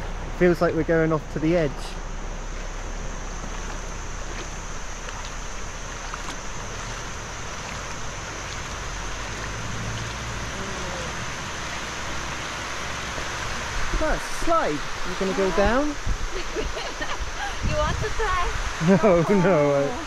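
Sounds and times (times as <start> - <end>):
river water rushing over concrete: 0.0 - 20.0.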